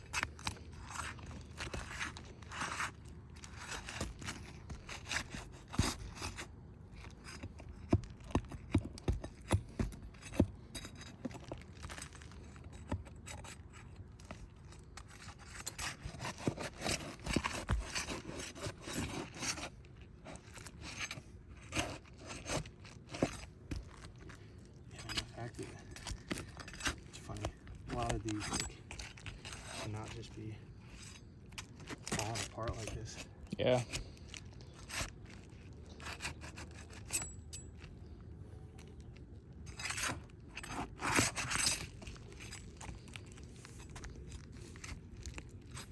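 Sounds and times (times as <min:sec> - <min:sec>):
hands scraping and rubbing object: 0:00.0 - 0:37.9, 0:38.9 - 0:45.9.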